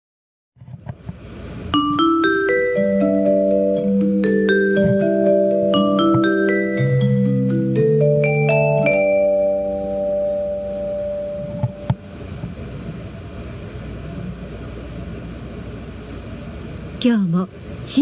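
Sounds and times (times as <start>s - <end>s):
steady low hum: 0.6s - 18.0s.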